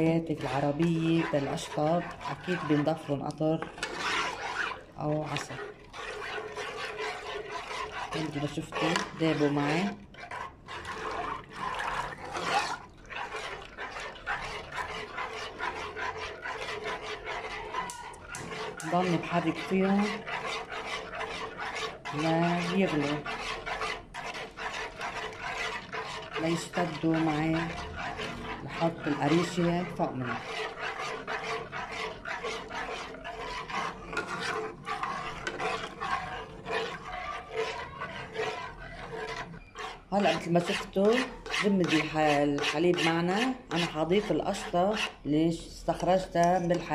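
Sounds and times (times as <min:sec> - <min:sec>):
metal spoon scraping a pan: 0:00.0 - 0:46.9.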